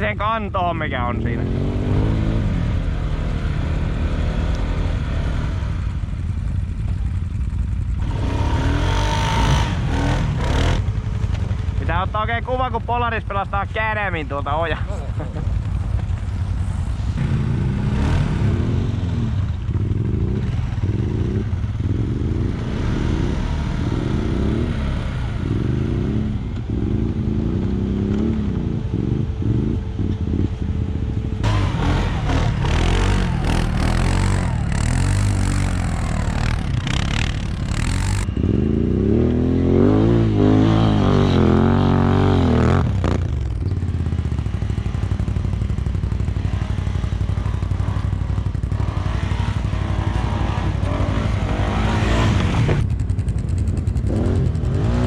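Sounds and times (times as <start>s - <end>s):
atv engine revving: 0.8s - 55.0s.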